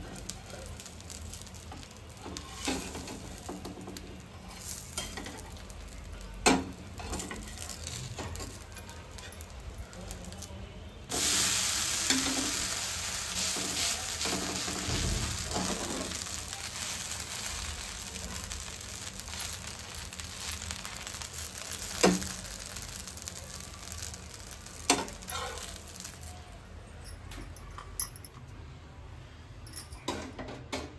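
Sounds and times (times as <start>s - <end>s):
batter sizzling on a griddle: 0.0s - 26.8s.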